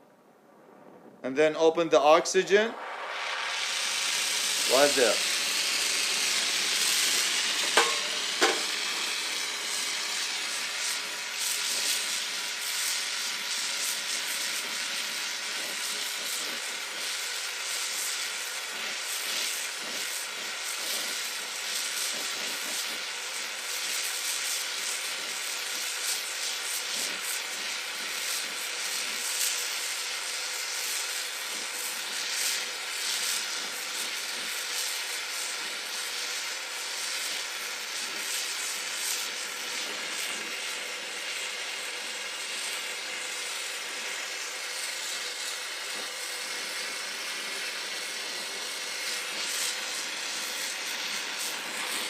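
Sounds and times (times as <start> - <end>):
torch flame hissing: 0.0 - 52.0.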